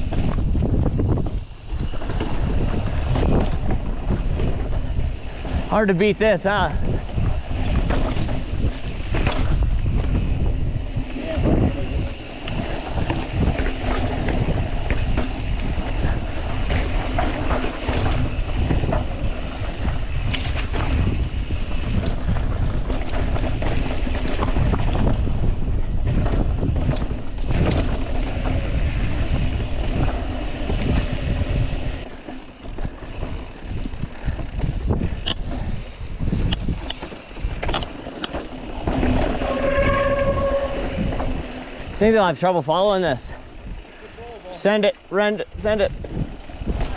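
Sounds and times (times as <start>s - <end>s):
wind rushing over microphone: 0.0s - 44.1s, 44.7s - 46.9s
bike frame rattling: 0.0s - 46.9s.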